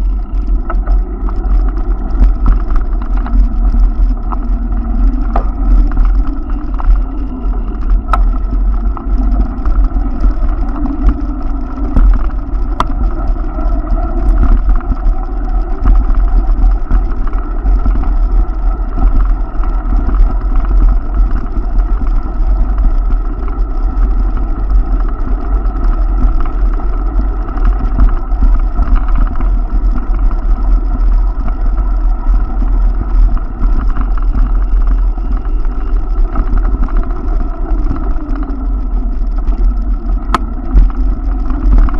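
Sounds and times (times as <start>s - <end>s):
bicycle rolling noise: 0.0s - 41.9s
wind rumble on microphone: 0.0s - 41.9s.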